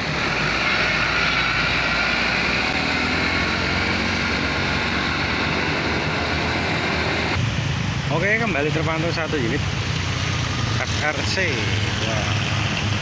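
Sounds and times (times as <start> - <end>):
heavy vehicle engine running: 0.0 - 13.0
high engine whine: 0.0 - 13.0.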